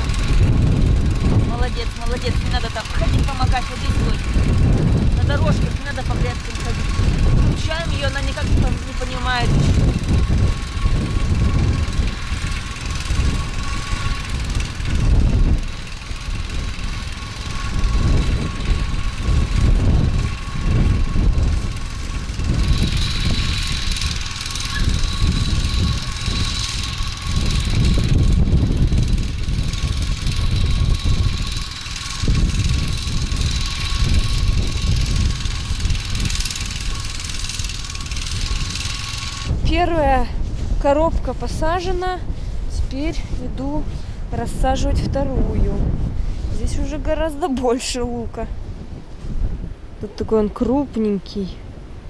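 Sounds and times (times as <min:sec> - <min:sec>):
distant cultivator engine hum: 0:00.0 - 0:52.0
gusty wind buffeting microphone: 0:00.0 - 0:52.0.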